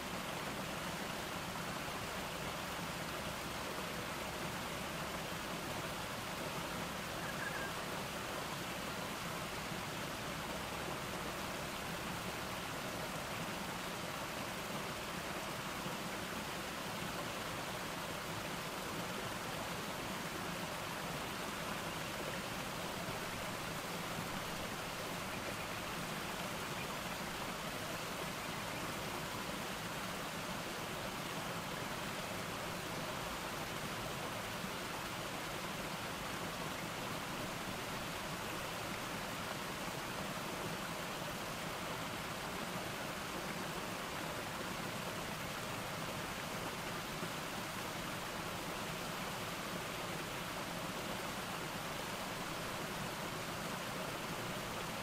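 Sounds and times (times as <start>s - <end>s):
water cascading over rocks: 0.0s - 55.0s.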